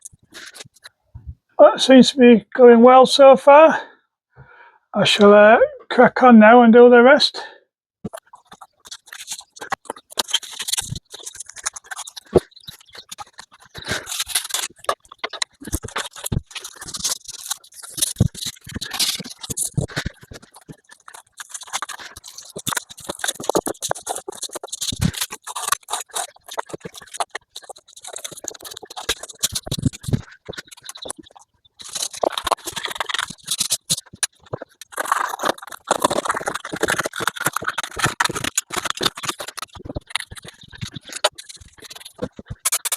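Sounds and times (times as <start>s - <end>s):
scraping and rustling: 8.1s - 42.9s.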